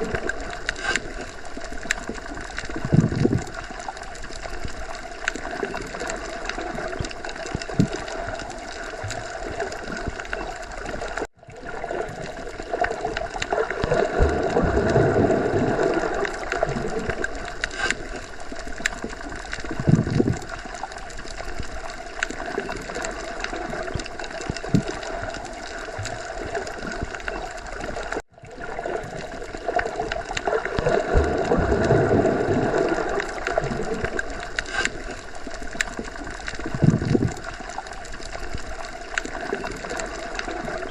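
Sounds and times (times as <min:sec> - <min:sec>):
muffled underwater water churning: 0:00.0 - 0:40.9.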